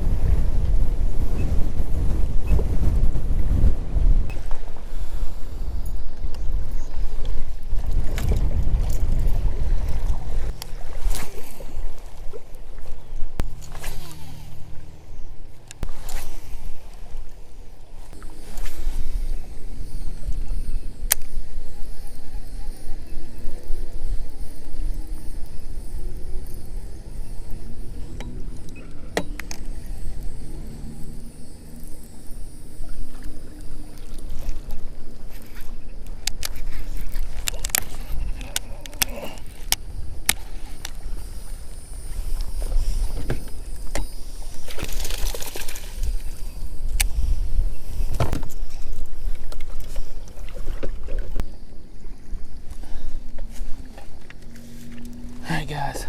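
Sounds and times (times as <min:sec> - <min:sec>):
water lapping against kayak: 0:00.0 - 0:56.0
wind buffeting microphone: 0:00.0 - 0:56.0.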